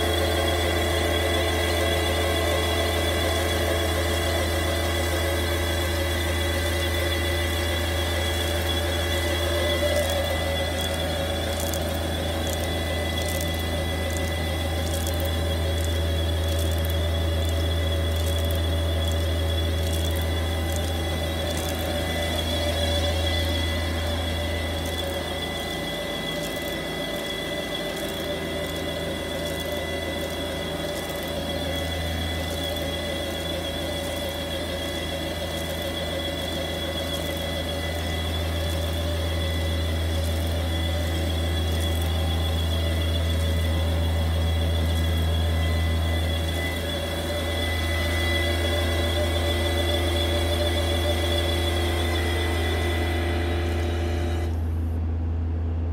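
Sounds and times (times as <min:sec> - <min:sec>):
machine low hum with whine: 0:00.0 - 0:55.9.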